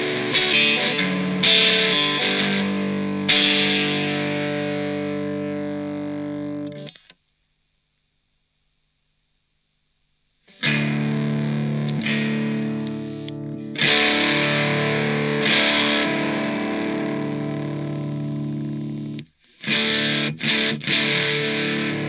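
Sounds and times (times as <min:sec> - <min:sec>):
overdriven electric guitar chords: 0:00.0 - 0:07.0, 0:10.5 - 0:22.0.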